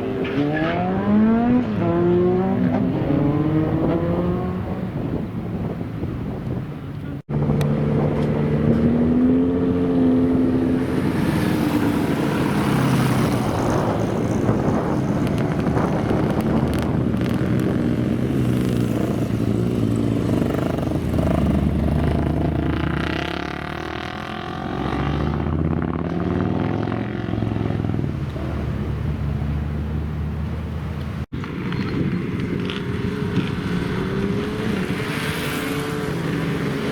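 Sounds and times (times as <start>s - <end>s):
motorcycle engines revving: 0.0s - 6.2s, 7.1s - 36.9s.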